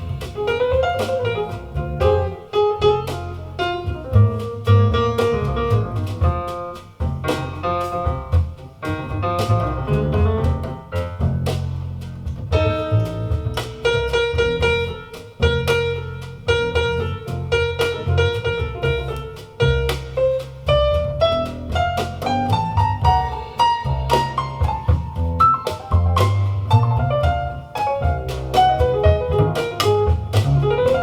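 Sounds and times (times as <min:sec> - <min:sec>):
double bass: 0:00.0 - 0:31.0
piano: 0:00.0 - 0:31.0.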